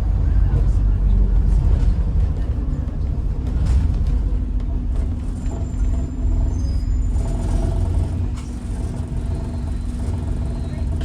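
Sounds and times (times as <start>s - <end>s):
bus engine and road rumble: 0.0s - 11.0s
constant hum: 0.0s - 11.0s.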